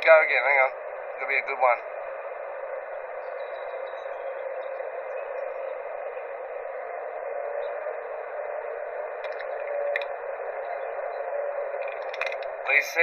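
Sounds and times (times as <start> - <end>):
faint hum: 0.0 - 13.0
hissy drone: 0.0 - 13.0.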